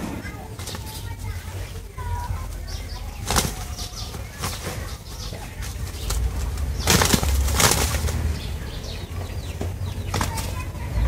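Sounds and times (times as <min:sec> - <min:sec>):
roosters flapping wings: 0:00.4 - 0:10.8.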